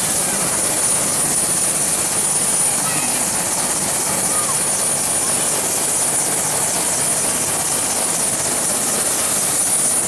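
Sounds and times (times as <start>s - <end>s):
helicopter rotor and engine: 0.0s - 10.0s.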